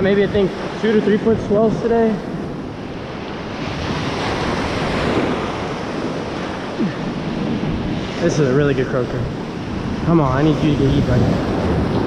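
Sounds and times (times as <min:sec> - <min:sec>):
surf breaking and washing: 0:00.0 - 0:12.0
wind buffeting microphone: 0:00.0 - 0:12.0.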